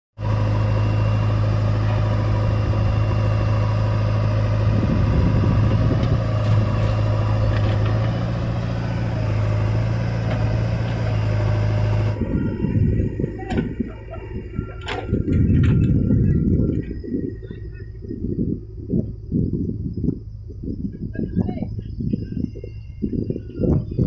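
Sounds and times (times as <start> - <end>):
diesel engines humming: 0.2 - 24.0.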